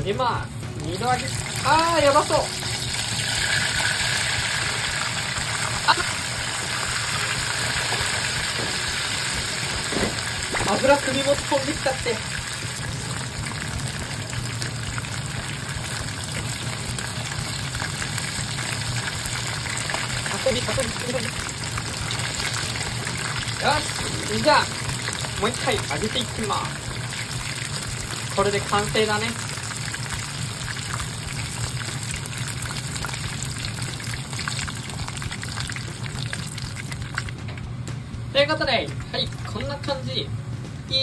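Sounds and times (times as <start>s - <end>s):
chicken deep-frying in hot oil: 0.0s - 40.2s.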